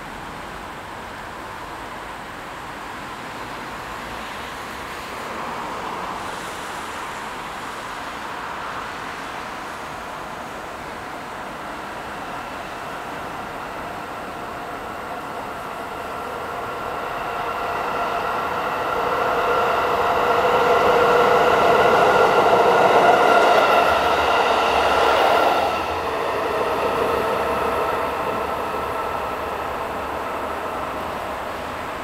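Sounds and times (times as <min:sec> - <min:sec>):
diesel train passing: 0:00.0 - 0:32.0.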